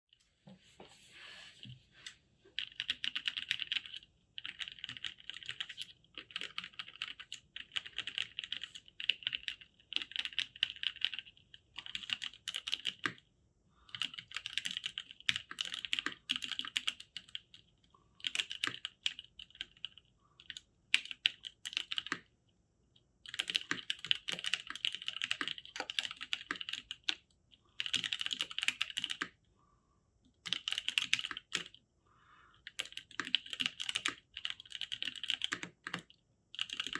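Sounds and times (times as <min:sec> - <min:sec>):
typing on mechanical keyboard: 0:02.6 - 0:13.2, 0:13.9 - 0:17.6, 0:18.2 - 0:22.3, 0:23.2 - 0:27.2, 0:27.8 - 0:29.4, 0:30.4 - 0:31.8, 0:32.6 - 0:36.9.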